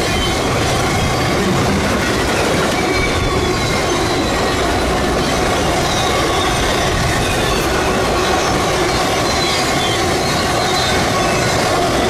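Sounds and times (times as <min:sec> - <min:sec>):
freight train wheels rumbling: 0:00.0 - 0:12.0
high wheel squeal: 0:00.0 - 0:12.0.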